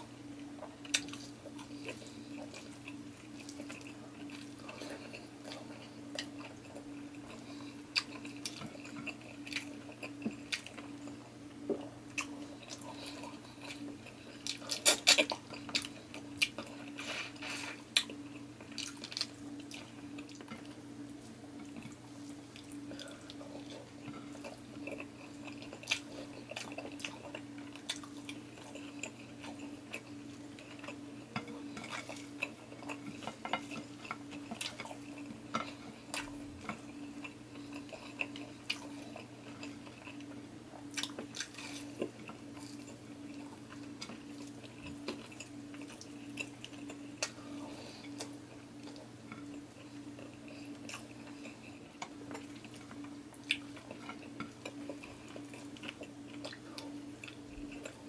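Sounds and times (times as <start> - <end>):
steady low hum: 0.0 - 58.0
chewing and mouth sounds: 0.5 - 58.0
fingers and food on ceramic plates: 0.5 - 58.0.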